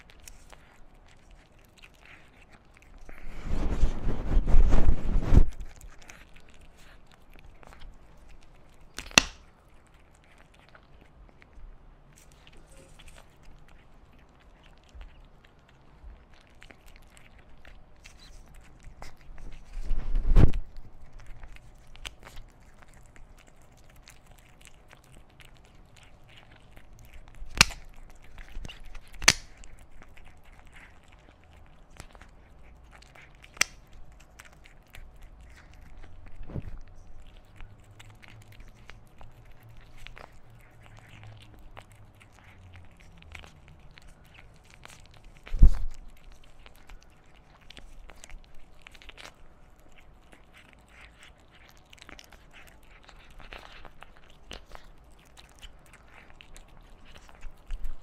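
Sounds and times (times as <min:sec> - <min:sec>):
kitten chewing and licking: 0:00.0 - 0:58.0.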